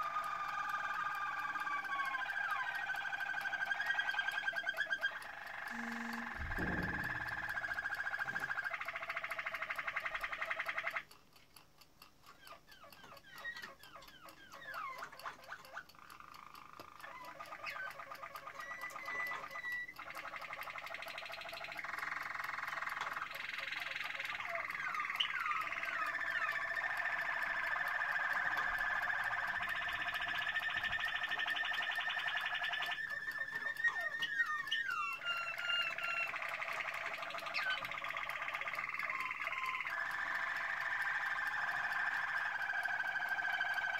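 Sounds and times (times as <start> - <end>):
canaries singing trills: 0.0 - 11.2, 12.2 - 43.9.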